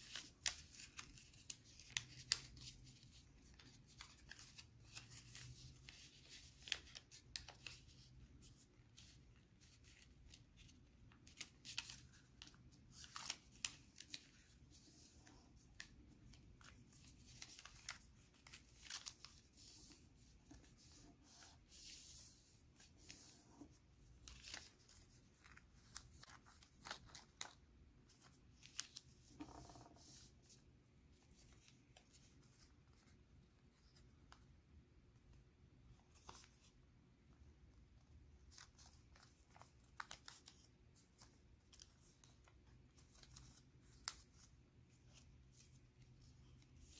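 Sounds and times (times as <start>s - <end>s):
paper rustling and crinkling: 0.0s - 34.4s, 38.0s - 46.9s.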